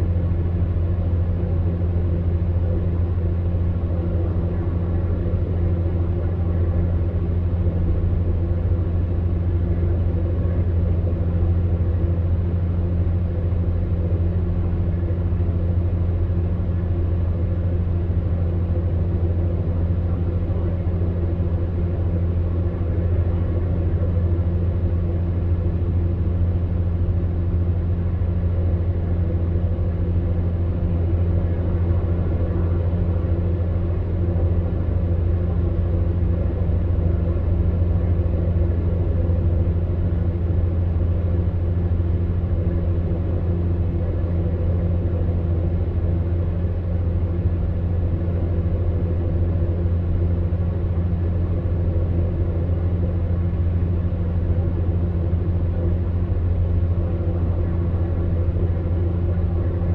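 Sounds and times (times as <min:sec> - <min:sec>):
electric fan heater running: 0:00.0 - 0:59.9.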